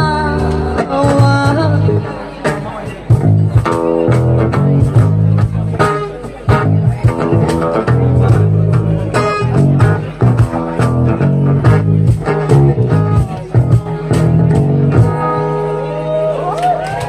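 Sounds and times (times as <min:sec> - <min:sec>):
guitar strumming chords: 0:00.0 - 0:16.1.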